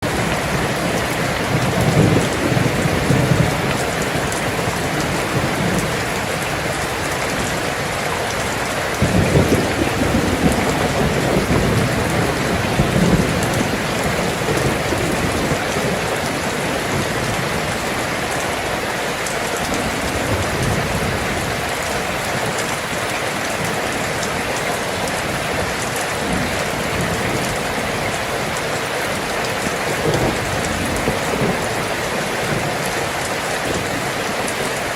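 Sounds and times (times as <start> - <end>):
heavy rain falling: 0.0 - 34.9
thunder rumbling: 0.0 - 34.9.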